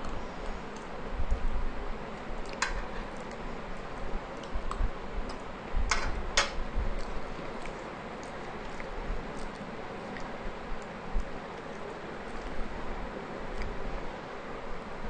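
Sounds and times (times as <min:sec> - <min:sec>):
eating sounds: 0:00.1 - 0:05.6, 0:06.6 - 0:14.2.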